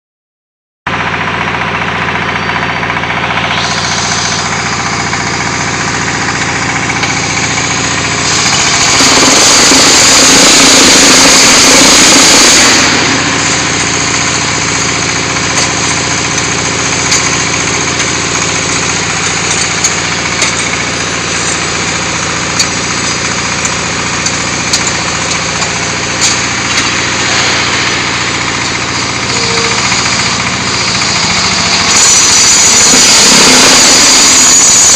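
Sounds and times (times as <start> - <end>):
diesel engine running: 0.9 - 34.9
rushing noise: 3.4 - 34.9.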